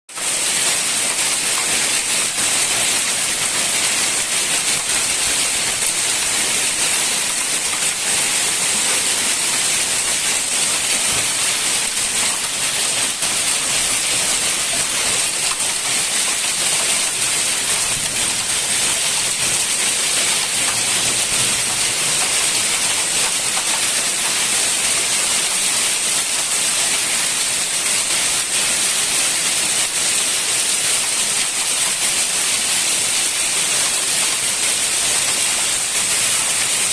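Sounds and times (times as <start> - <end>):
heavy rain with hail: 0.1 - 36.9.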